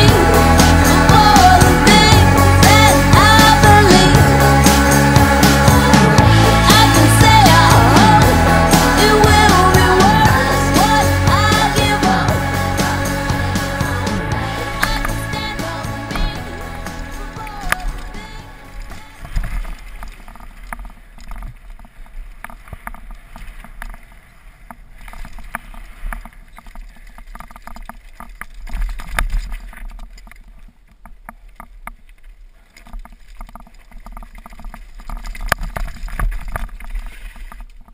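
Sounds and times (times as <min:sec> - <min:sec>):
bike rattling over bumps: 0:00.0 - 0:37.9
bike tyres rumbling on dirt: 0:00.0 - 0:37.9.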